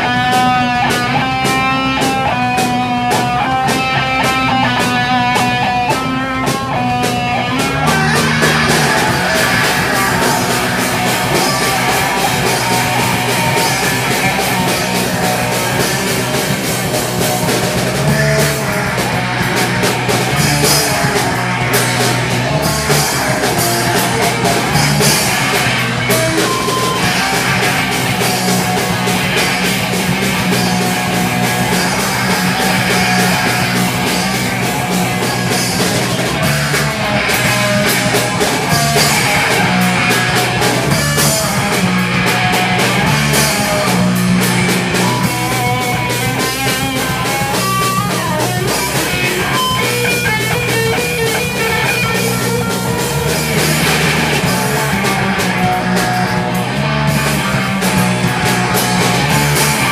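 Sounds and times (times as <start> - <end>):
punk band playing loud: 0.0 - 59.9.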